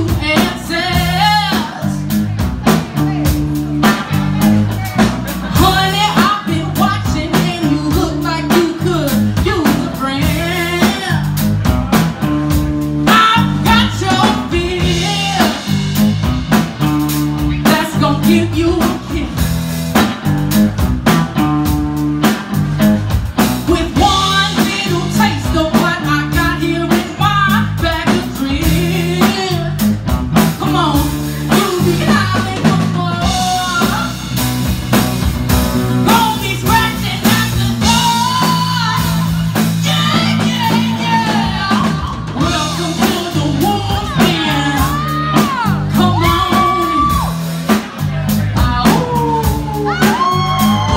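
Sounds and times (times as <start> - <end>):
woman singing: 0.0 - 11.5, 13.0 - 15.8, 17.4 - 19.5, 23.6 - 34.4, 36.0 - 47.4, 48.6 - 50.9
drum kit: 0.0 - 50.9
electric bass: 0.0 - 50.9
electric guitar: 0.0 - 50.9.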